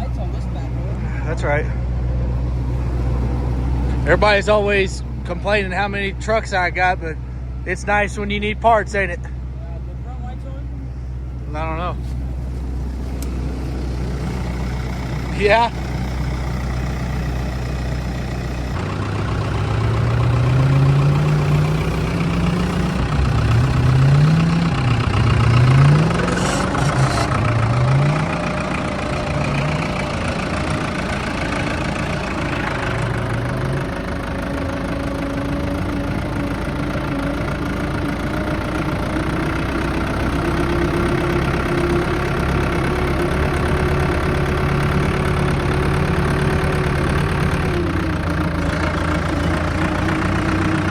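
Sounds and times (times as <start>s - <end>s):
engine revving: 0.0s - 9.3s, 10.0s - 50.9s.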